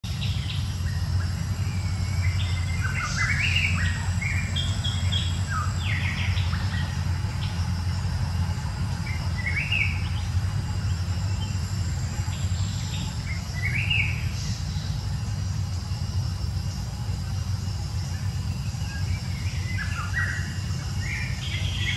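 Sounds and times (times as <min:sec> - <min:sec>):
birds chirping: 0:00.0 - 0:21.9
low background hum: 0:00.0 - 0:21.9.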